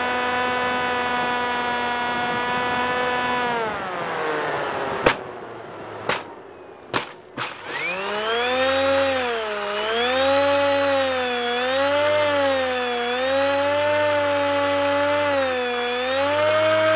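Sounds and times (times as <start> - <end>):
model plane motor whine: 0.0 - 5.0, 7.4 - 16.9.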